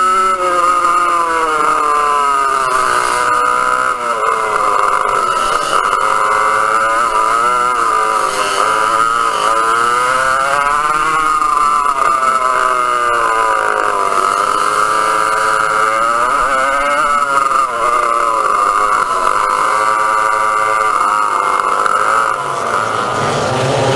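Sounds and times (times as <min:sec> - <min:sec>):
kart engines revving: 0:00.0 - 0:23.9.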